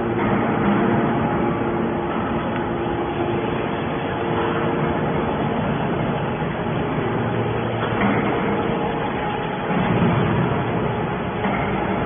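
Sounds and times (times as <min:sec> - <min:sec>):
hydraulic machine running: 0:00.0 - 0:12.0
steady machine tones: 0:00.0 - 0:12.0.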